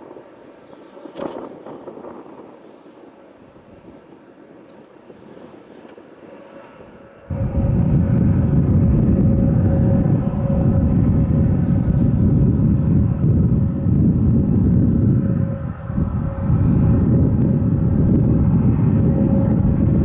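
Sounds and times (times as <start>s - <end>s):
jet engine noise with whine: 0.0s - 20.0s.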